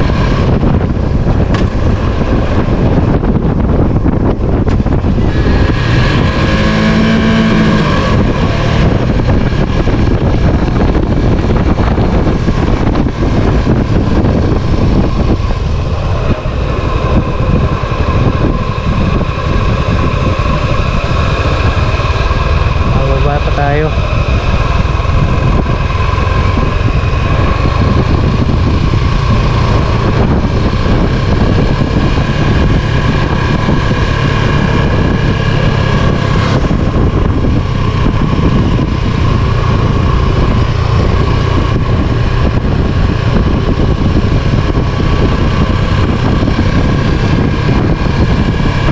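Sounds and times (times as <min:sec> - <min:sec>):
vehicle engine running: 0:00.0 - 0:48.9
wind rumbling on microphone: 0:00.0 - 0:48.9.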